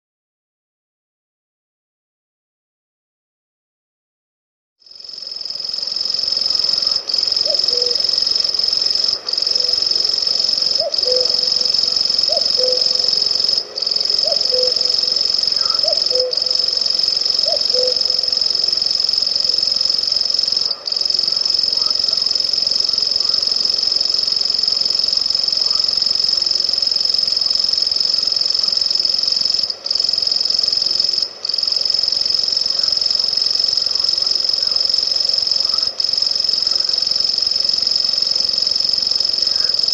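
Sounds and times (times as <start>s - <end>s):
bird reeling trill: 5.5s - 39.9s.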